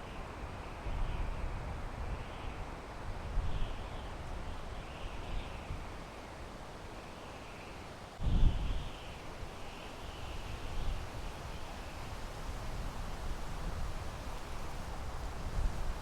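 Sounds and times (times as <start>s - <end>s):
wind through pine trees: 0.0s - 16.0s.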